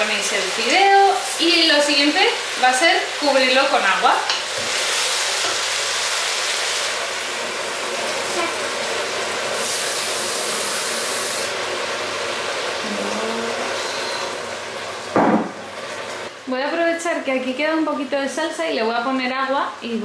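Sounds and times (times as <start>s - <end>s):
food sizzling in a pot: 0.0s - 19.6s.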